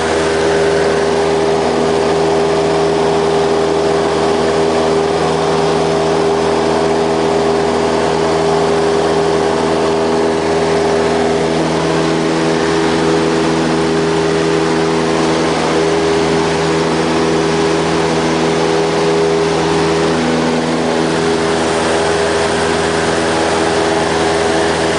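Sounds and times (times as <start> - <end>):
light aircraft engine and propeller: 0.0 - 24.9.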